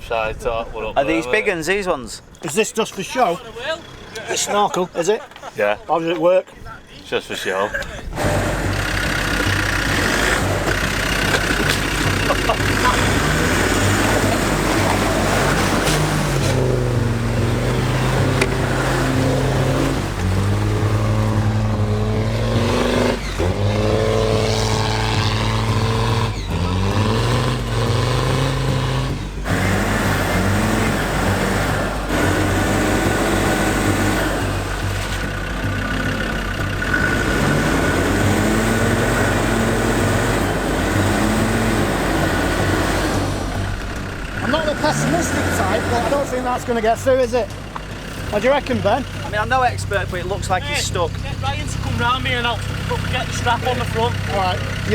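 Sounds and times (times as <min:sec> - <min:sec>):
off-road vehicle engine revving: 0:00.0 - 0:06.0, 0:07.2 - 0:54.9.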